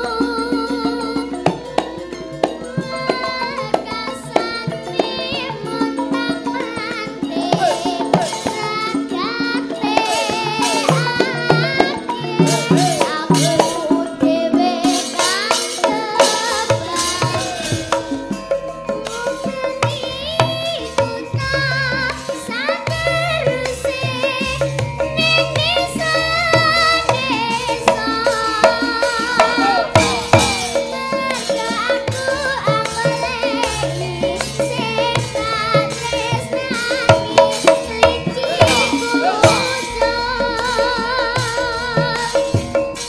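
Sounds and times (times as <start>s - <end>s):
drum strokes: 0.0s - 43.0s
gamelan music: 0.0s - 43.0s
ringing metallophone notes: 0.0s - 43.0s
woman singing into microphone: 0.0s - 43.0s.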